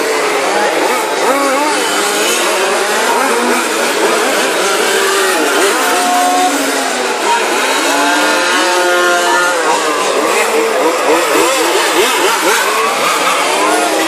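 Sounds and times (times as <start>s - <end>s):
small two-stroke engines racing: 0.0s - 14.0s.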